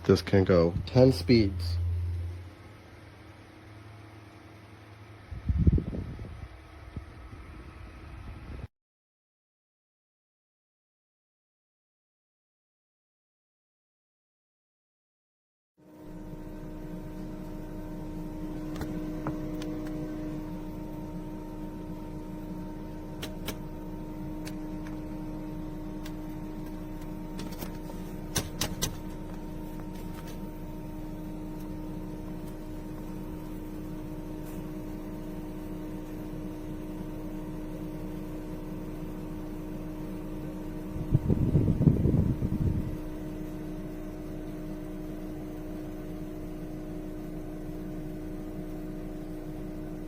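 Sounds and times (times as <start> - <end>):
fan motor hum and air rush: 0.0 - 8.7, 15.9 - 50.0.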